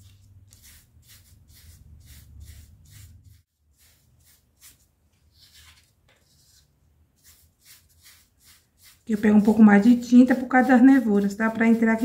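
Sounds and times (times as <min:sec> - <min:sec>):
sponge dabbing paint on foam: 0:00.0 - 0:12.0.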